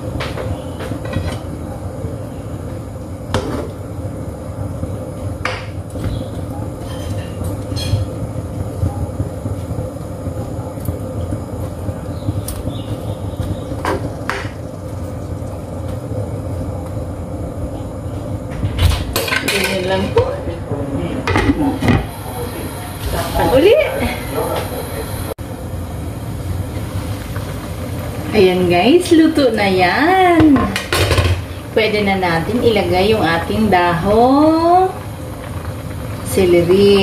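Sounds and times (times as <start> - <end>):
gas stove low rumble: 0.0 - 37.0.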